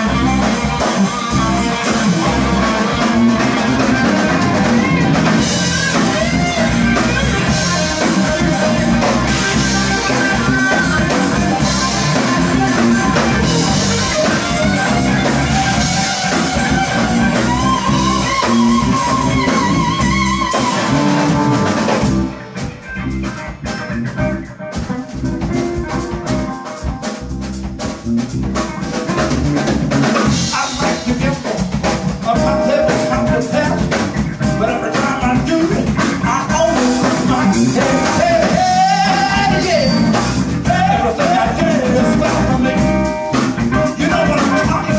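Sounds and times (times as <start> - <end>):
live blues-rock band: 0.0 - 44.9.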